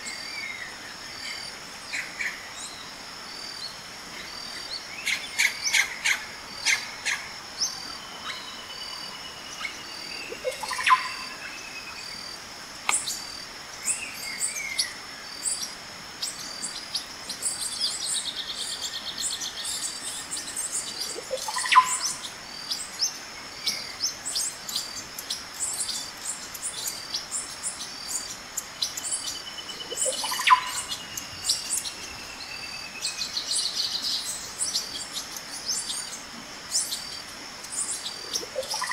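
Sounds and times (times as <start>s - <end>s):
birds chirping and singing: 3.6s - 38.9s.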